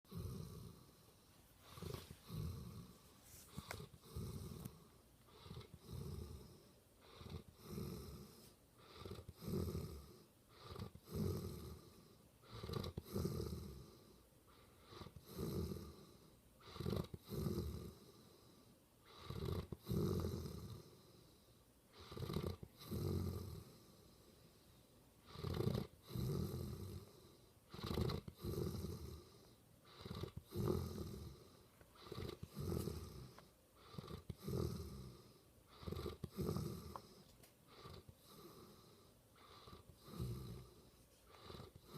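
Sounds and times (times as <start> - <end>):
person snoring: 0.1 - 14.2, 14.8 - 21.3, 21.9 - 24.4, 25.3 - 41.9.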